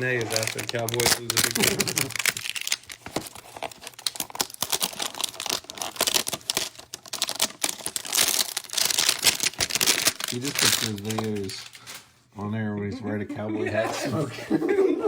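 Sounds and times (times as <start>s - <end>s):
wrapper crinkling and tearing: 0.0s - 12.2s.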